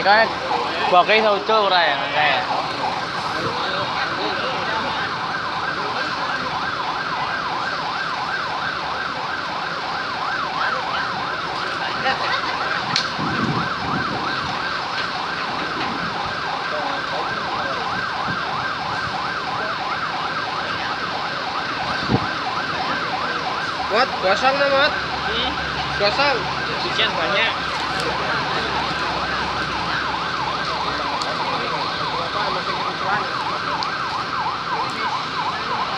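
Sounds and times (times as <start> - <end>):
electronic siren yelping: 0.0 - 35.9.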